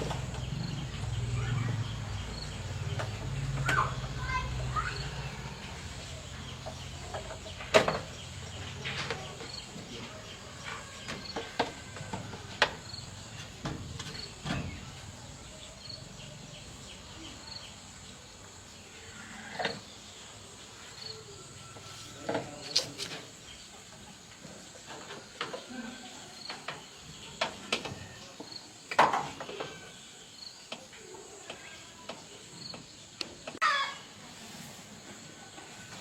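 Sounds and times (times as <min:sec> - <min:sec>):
insects chirping: 0:00.0 - 0:34.2.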